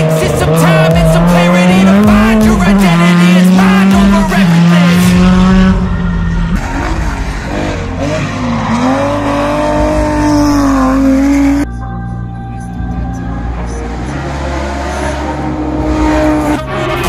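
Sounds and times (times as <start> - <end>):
race car engines revving high: 0.0 - 11.7, 13.0 - 17.0.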